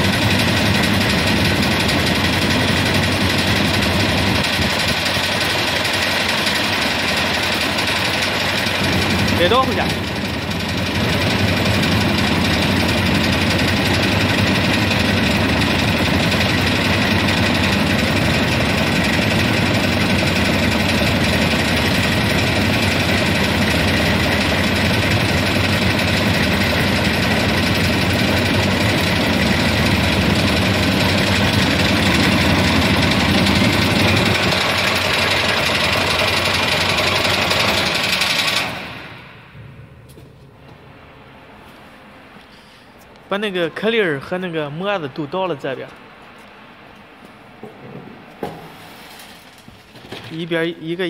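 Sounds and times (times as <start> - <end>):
machine rattling and humming: 0.0 - 42.4, 43.4 - 51.0.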